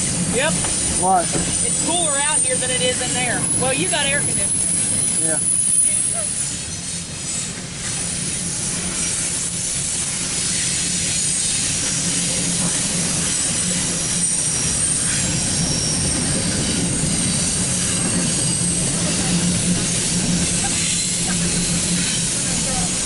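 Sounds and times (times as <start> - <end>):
train wheels rumbling on rails: 0.0 - 23.0
high-pitched wheel squeals: 0.7 - 12.4, 13.0 - 23.0.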